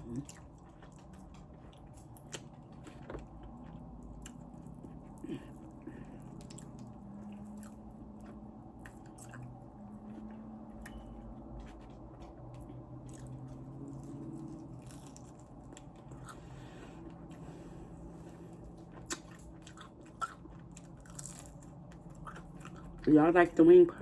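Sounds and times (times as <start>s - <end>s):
chewing crunchy food: 0.0s - 23.6s.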